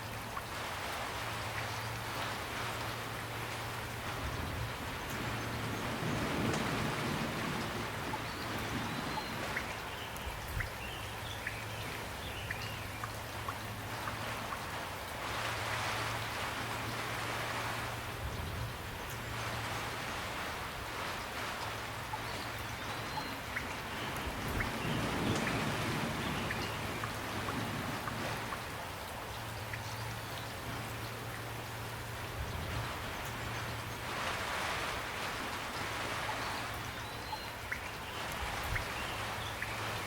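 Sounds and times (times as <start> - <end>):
gentle rain pattering: 0.0 - 40.0.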